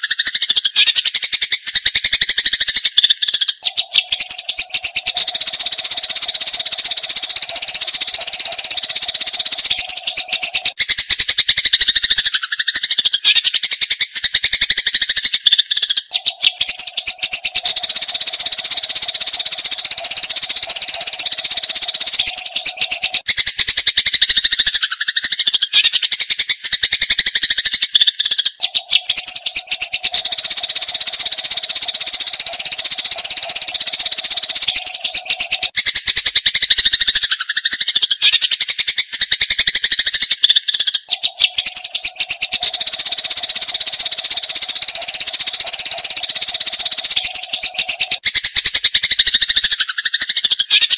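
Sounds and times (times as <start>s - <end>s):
sparrows chattering: 0.0s - 50.9s.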